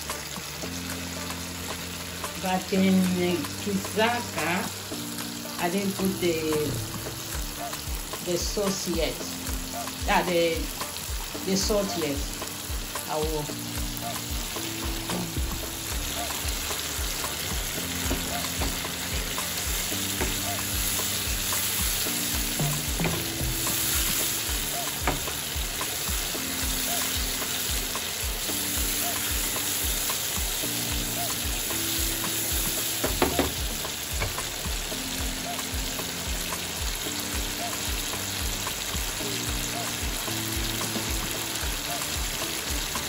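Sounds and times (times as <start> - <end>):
food sizzling in a pan: 0.0 - 43.0.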